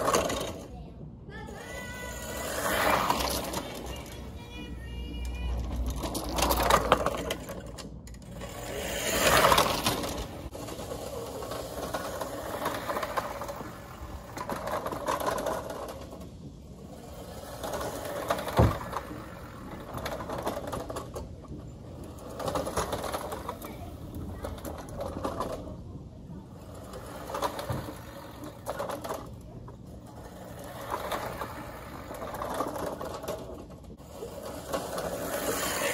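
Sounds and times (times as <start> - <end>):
reel mower whirring and clicking: 2.0 - 25.8, 26.6 - 35.9.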